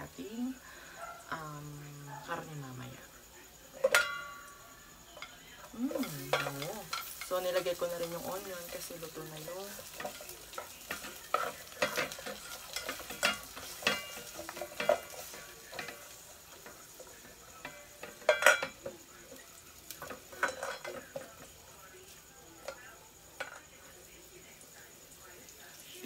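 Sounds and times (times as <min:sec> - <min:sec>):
onion and garlic sizzling in oil: 0:00.0 - 0:26.0.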